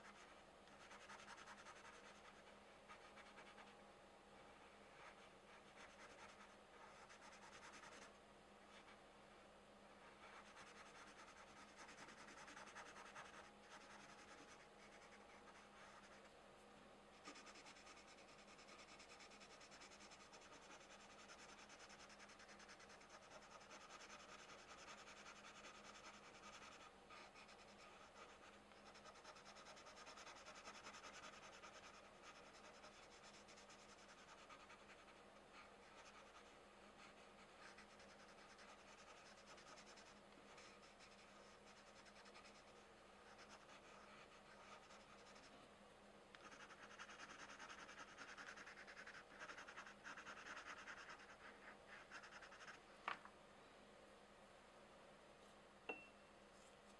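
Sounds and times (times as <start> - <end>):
pencil scratching on paper: 0.0 - 3.7, 4.4 - 8.1, 10.0 - 16.3, 17.2 - 45.5, 46.4 - 52.8.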